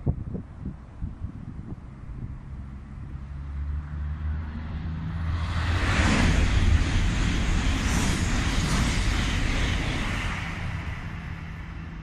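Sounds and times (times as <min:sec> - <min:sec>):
high-speed train passing: 0:00.4 - 0:12.0.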